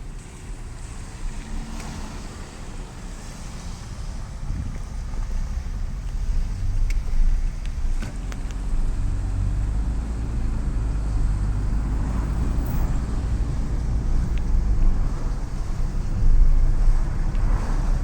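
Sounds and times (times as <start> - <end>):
car driving in heavy rain: 0.0 - 18.0.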